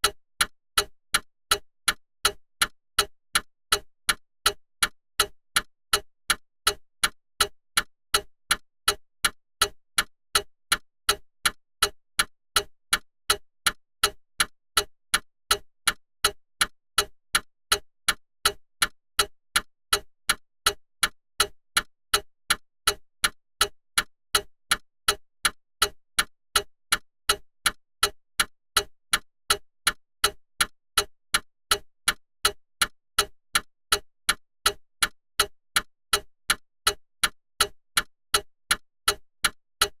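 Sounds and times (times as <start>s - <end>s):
clock ticking: 0.0s - 40.0s.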